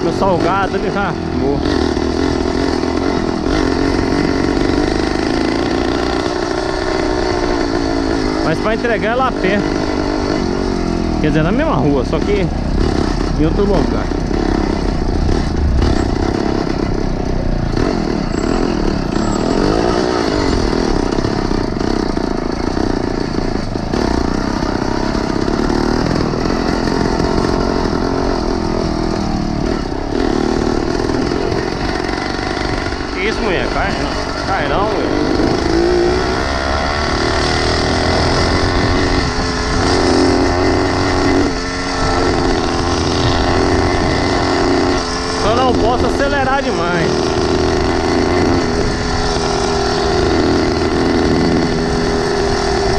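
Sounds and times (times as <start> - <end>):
small bicycle engine running: 0.0 - 52.9.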